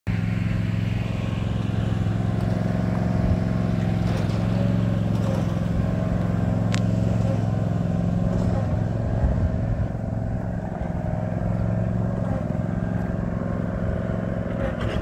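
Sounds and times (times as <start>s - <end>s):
low motor hum: 0.1s - 15.0s.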